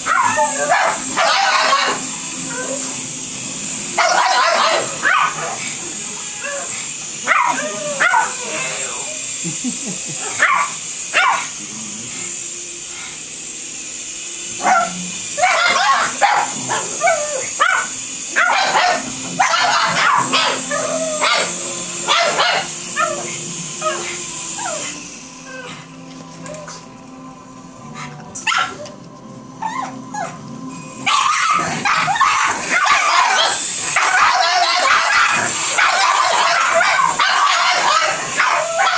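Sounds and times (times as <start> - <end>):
dogs barking and yipping: 0.0 - 3.0, 3.7 - 9.0, 10.0 - 11.6, 14.6 - 26.9, 28.0 - 30.4, 31.0 - 38.9
toy helicopter motor whine: 0.0 - 27.3, 29.6 - 38.9.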